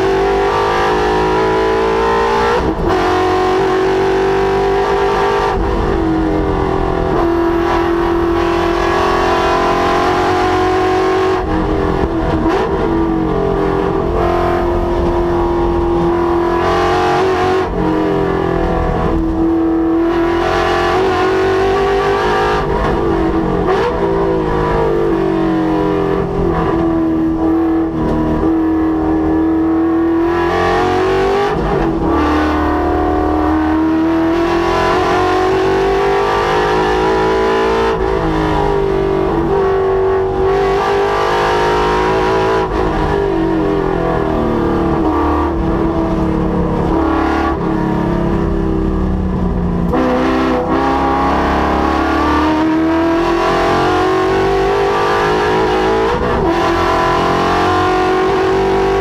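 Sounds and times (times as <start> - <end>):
car engine revving under full throttle: 0.0 - 59.0.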